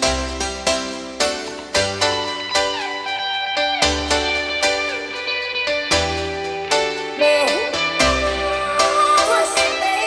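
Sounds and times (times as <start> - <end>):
instrumental tune: 0.0 - 10.0.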